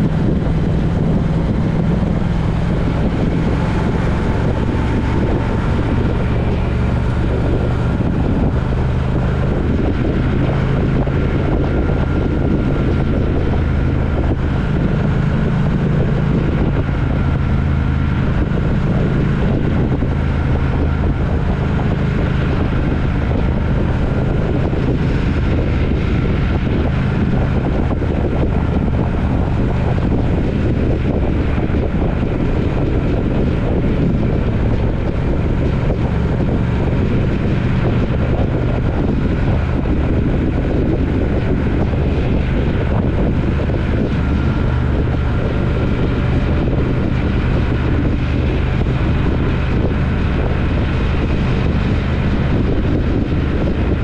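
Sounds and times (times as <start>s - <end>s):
motorcycle engine humming: 0.0s - 54.0s
wind on microphone: 0.0s - 54.0s.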